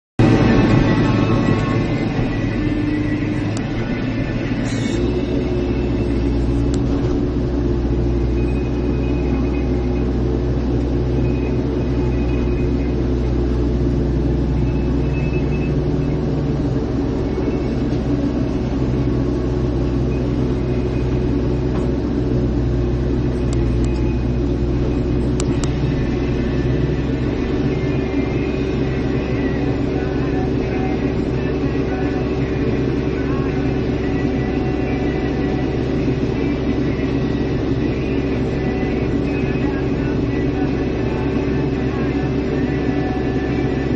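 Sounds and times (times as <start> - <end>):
excavator diesel engine droning: 0.2 - 43.9.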